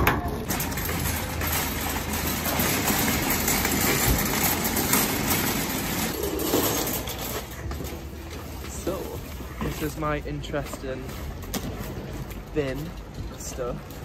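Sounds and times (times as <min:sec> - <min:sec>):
shopping trolley rattling on paving: 0:00.0 - 0:14.0.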